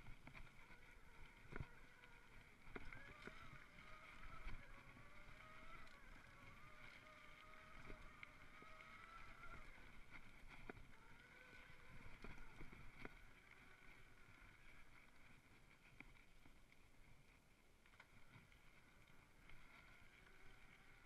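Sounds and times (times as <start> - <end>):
drivetrain whine: 0.0 - 21.0.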